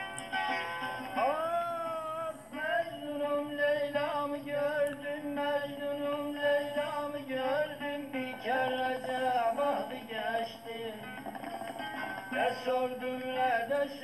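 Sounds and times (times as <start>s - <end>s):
ornamented vocal line: 1.1s - 14.0s.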